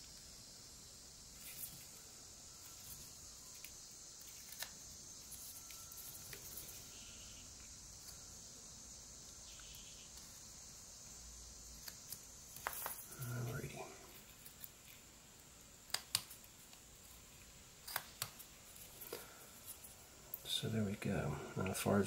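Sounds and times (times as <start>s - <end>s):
steady high hiss: 0.0s - 22.0s.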